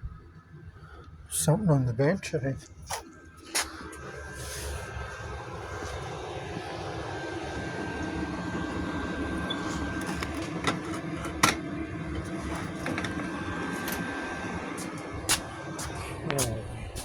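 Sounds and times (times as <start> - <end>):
mechanical whir with high tone: 3.1 - 17.0.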